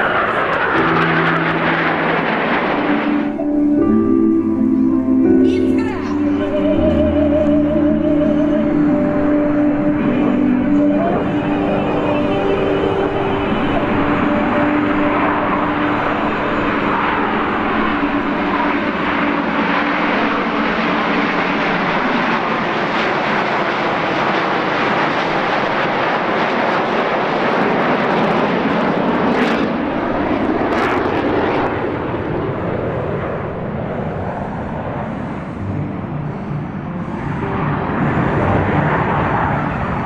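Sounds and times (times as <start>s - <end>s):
jet engines flying overhead: 0.0s - 40.0s.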